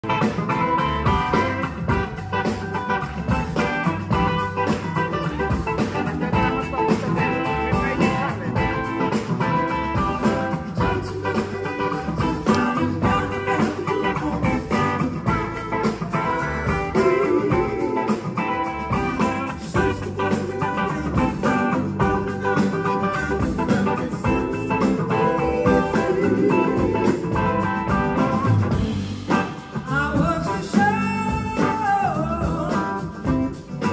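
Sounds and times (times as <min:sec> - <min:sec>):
drums keeping a beat: 0:00.0 - 0:33.9
electric guitars: 0:00.0 - 0:33.9.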